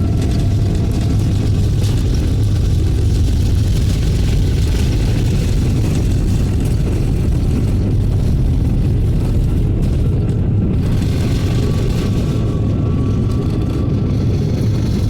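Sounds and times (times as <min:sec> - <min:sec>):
airliner engines rumbling in cabin: 0:00.0 - 0:15.0.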